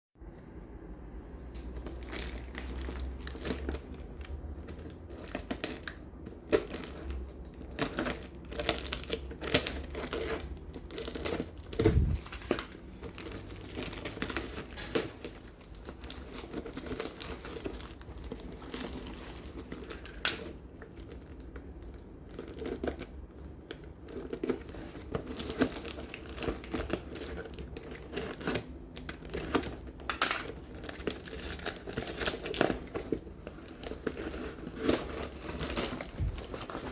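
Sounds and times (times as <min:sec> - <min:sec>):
packaging crinkling and rustling: 0:01.4 - 0:36.9
packaging tearing: 0:01.6 - 0:36.9.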